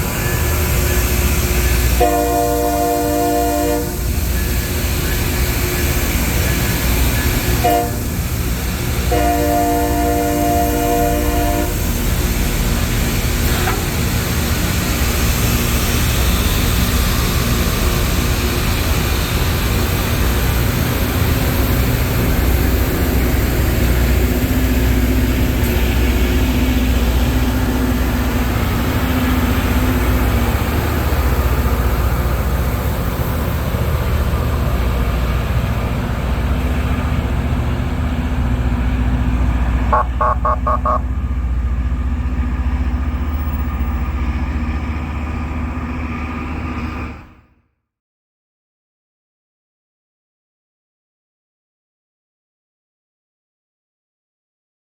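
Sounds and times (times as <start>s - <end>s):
diesel engines running: 0.0s - 47.0s
rail grinding rush: 0.0s - 47.4s.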